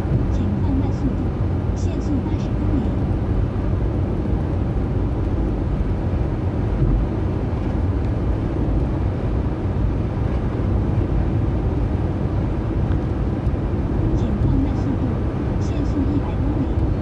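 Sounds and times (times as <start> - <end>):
in-cabin road and engine noise: 0.0 - 17.0.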